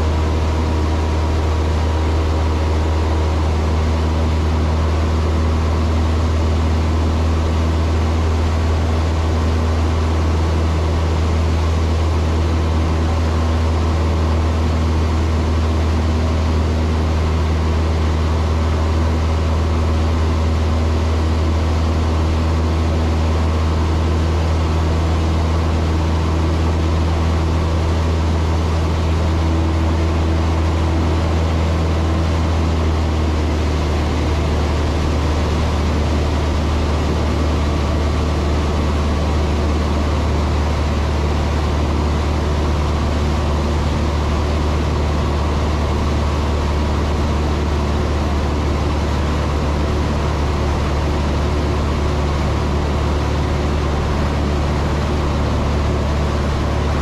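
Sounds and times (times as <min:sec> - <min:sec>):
airplane engine and propeller droning: 0:00.0 - 0:57.0.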